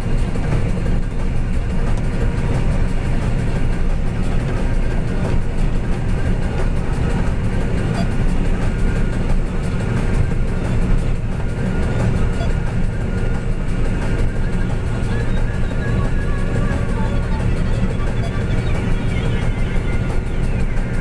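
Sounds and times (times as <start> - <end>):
combine harvester low drone: 0.0 - 21.0.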